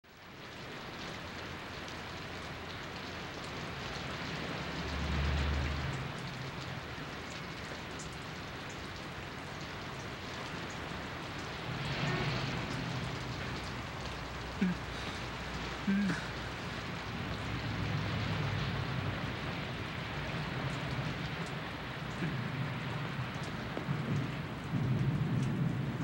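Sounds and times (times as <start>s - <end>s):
rain pattering on pavement: 0.0s - 26.0s
car driving past on wet street: 2.5s - 26.0s.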